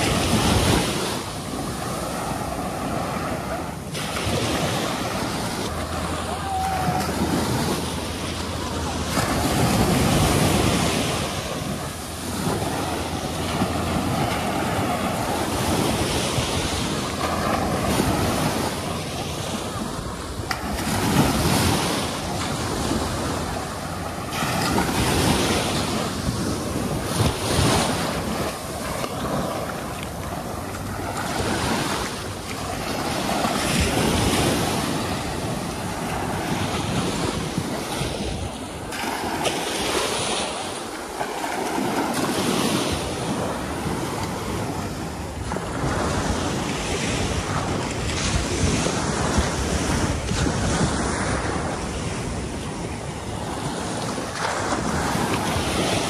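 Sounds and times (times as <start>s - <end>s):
ocean surf washing onto beach: 0.0s - 56.0s
wind rumbling on microphone: 0.0s - 56.0s.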